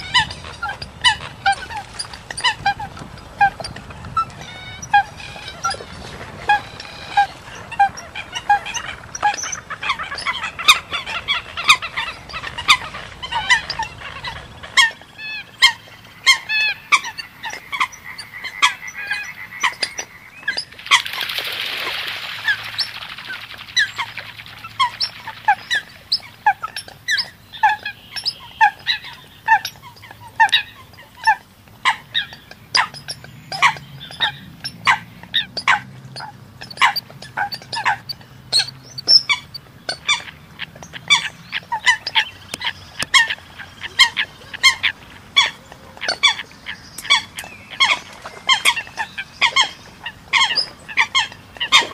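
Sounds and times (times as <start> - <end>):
coots calling: 0.0 - 51.9.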